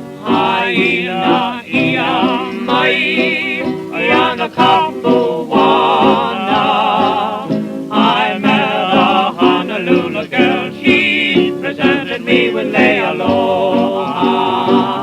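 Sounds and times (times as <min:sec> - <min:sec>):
string-band music with vibrato melody: 0:00.0 - 0:15.0.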